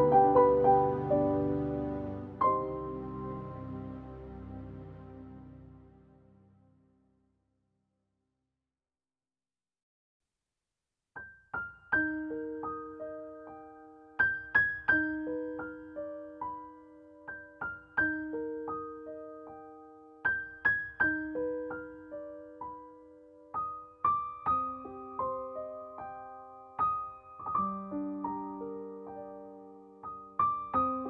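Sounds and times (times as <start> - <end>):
slow gentle piano melody: 0.0 - 6.7, 11.2 - 31.0.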